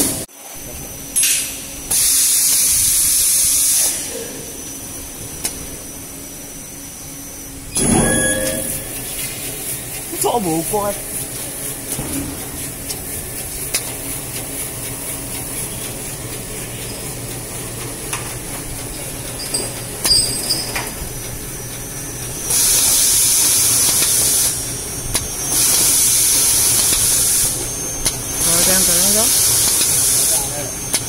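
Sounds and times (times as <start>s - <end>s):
machine humming: 2.7s - 20.1s, 21.0s - 31.0s.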